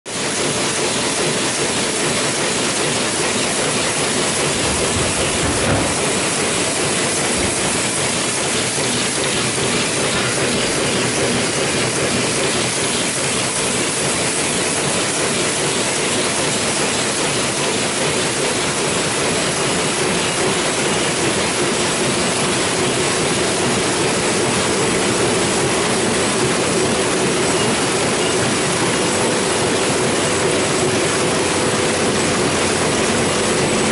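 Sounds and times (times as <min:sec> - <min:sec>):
printing press clattering: 0:00.1 - 0:33.9.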